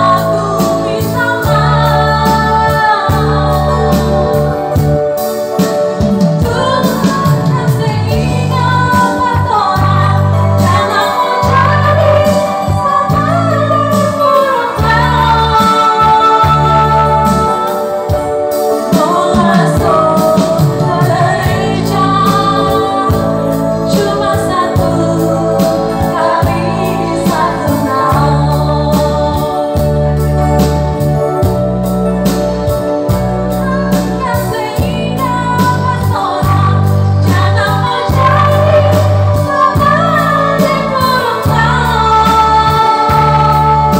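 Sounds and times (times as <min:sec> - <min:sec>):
electronic keyboard playing: 0:00.0 - 0:43.9
woman singing into a microphone: 0:00.0 - 0:43.9.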